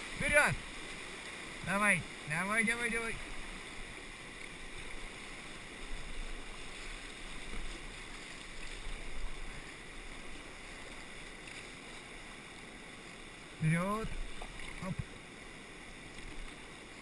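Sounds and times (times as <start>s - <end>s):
river water rushing through rapids: 0.0s - 17.0s.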